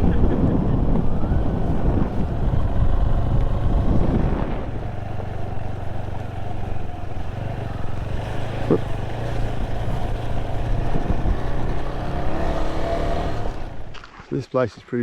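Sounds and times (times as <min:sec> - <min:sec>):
wind buffeting microphone: 0:00.0 - 0:14.0
motorcycle engine hum: 0:00.0 - 0:14.3.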